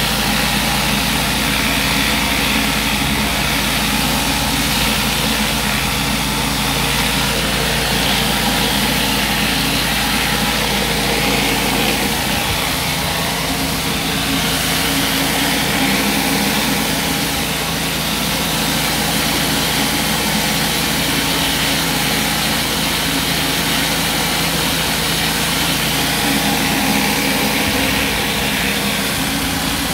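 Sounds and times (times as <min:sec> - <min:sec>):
high-pressure water jets hissing: 0:00.0 - 0:29.9
pressure washer motor hum: 0:00.0 - 0:29.9.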